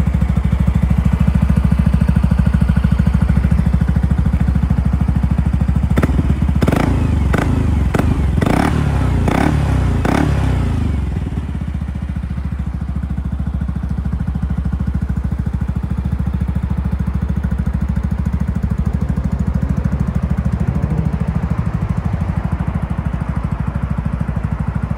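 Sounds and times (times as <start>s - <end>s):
scooter engine revving and idling: 0.0s - 24.9s.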